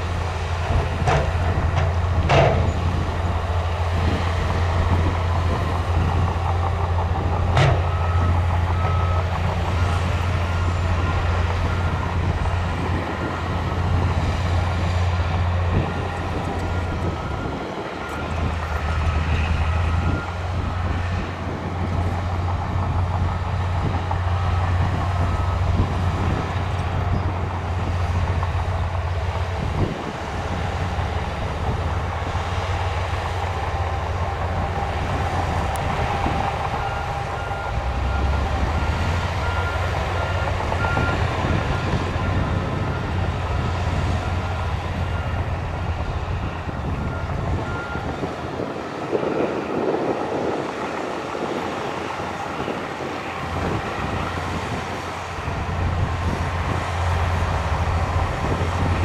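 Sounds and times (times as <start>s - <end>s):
bulldozer diesel engines under load: 0.0s - 59.0s
reversing alarm beeping: 0.6s - 59.0s.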